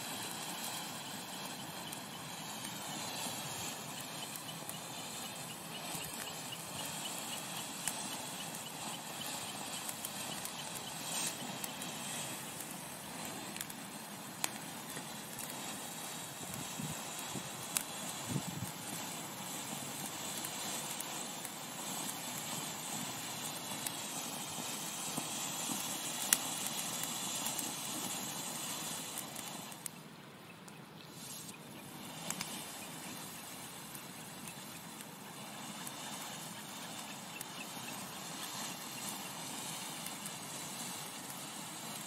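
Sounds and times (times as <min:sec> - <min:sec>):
crackles and pops: 0:00.0 - 0:42.0
firework fountain hissing: 0:00.0 - 0:42.0.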